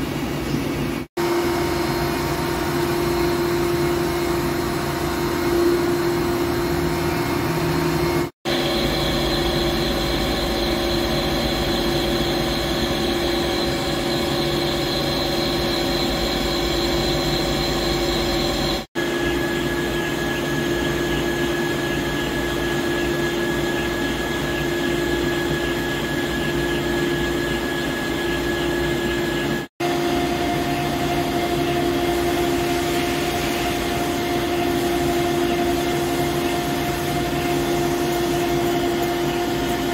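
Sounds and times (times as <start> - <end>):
lathe machine hum with whining: 0.0 - 39.9.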